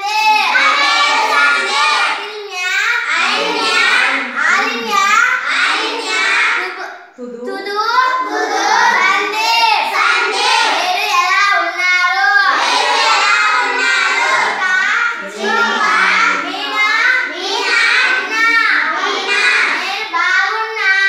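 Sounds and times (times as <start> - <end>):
children singing: 0.0 - 6.8, 8.1 - 21.0.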